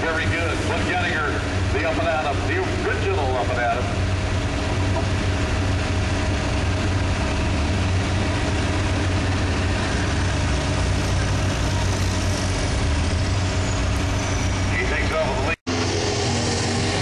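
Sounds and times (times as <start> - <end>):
diesel tractor engines running: 0.0 - 17.0.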